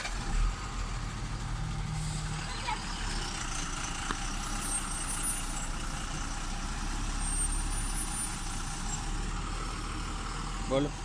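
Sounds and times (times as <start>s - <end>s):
heavy truck engine rumbling: 0.0s - 11.0s.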